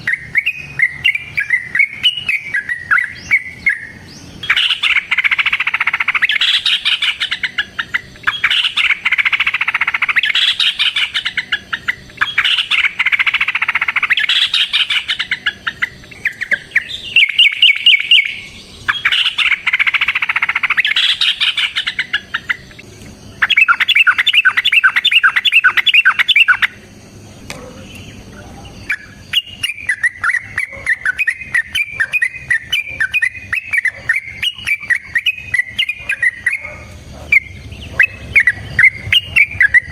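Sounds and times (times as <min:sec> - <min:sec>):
bulbul bubbly chattering song: 0:00.0 - 0:27.1, 0:28.8 - 0:39.9
fast rattling bird trills: 0:00.0 - 0:39.9.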